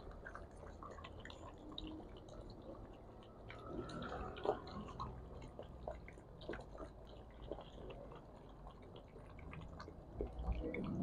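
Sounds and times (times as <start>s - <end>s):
puppies chewing and smacking: 0.0s - 11.0s.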